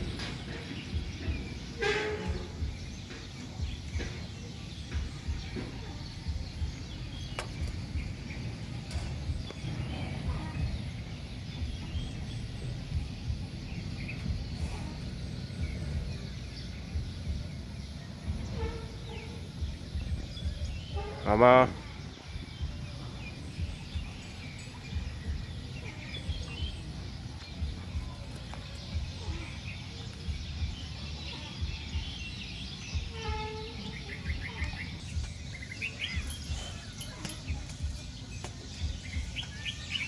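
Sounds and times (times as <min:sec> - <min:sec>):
low rumble in cattle shed: 0:00.0 - 0:40.0.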